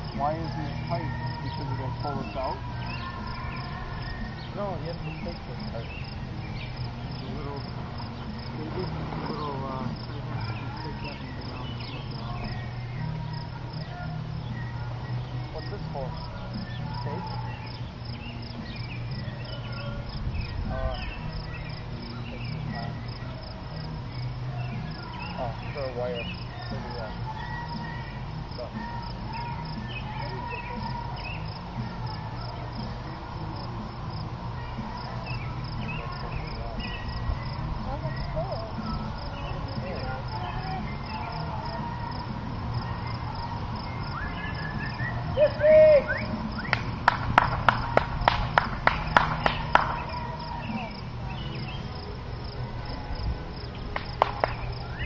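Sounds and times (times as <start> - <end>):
birds calling: 0.0 - 55.0
crickets chirping: 0.0 - 55.0
faint distant voices: 0.0 - 55.0
insects buzzing: 0.0 - 55.0.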